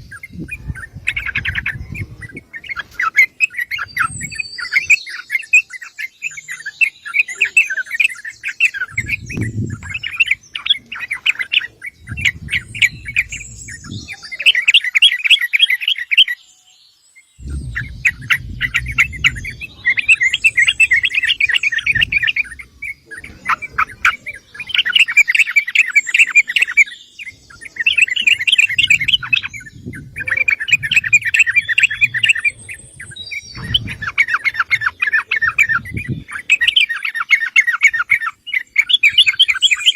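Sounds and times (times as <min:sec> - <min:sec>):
bird chattering: 0:00.0 - 0:16.4, 0:17.4 - 0:39.9.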